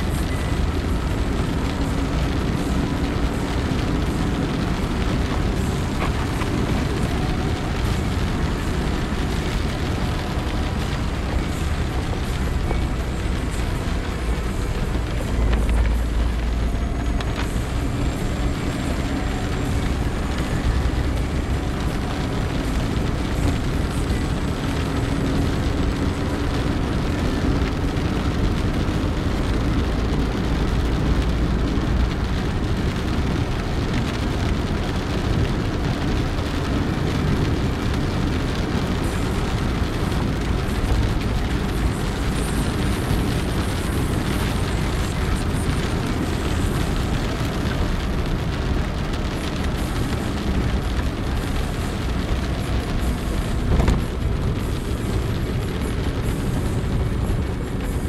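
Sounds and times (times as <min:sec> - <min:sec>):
car engine and tyre rumble: 0:00.0 - 0:58.0
tyres hissing on wet road: 0:00.0 - 0:58.0.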